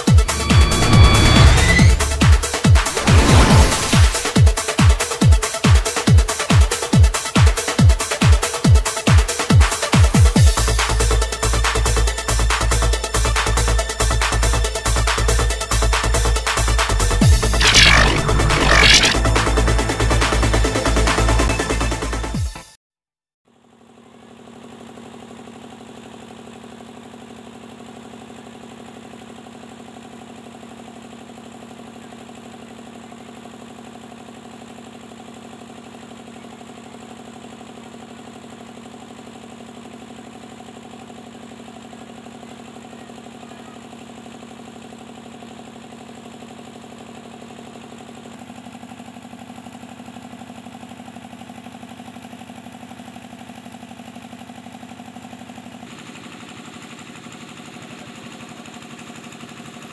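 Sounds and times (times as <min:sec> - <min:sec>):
small engine running steadily: 0:00.0 - 0:22.4, 0:23.5 - 0:59.9.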